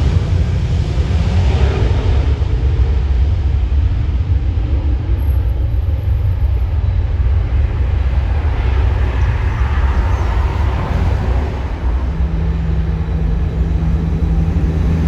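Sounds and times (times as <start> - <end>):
jet airliner engines rumbling: 0.0 - 15.0.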